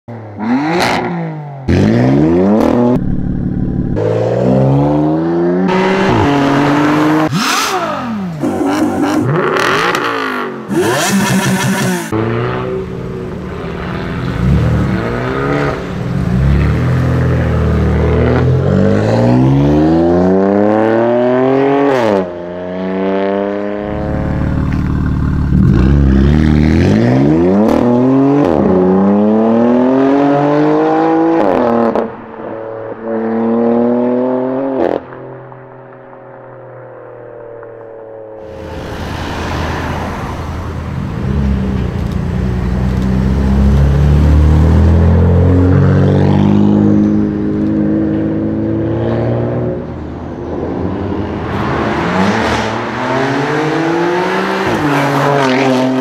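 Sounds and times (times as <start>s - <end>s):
car engine revving and accelerating: 0.1s - 35.2s, 38.4s - 56.0s.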